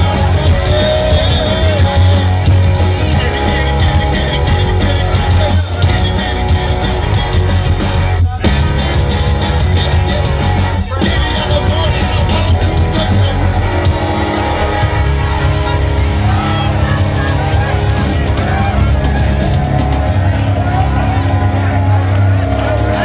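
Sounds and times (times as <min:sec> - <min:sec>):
bass line: 0:00.0 - 0:23.0
rock band playing: 0:00.0 - 0:23.0.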